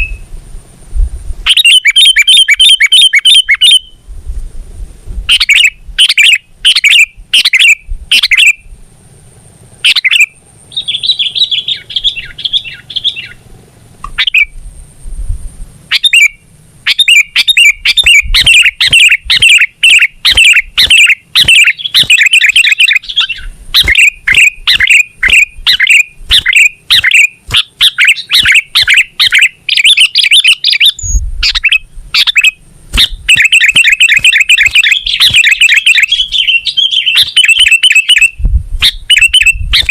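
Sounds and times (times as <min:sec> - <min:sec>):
bird chirping and chattering: 0:00.0 - 0:00.2, 0:01.5 - 0:04.0, 0:05.3 - 0:08.7, 0:09.8 - 0:13.4, 0:14.1 - 0:14.6, 0:15.9 - 0:39.9.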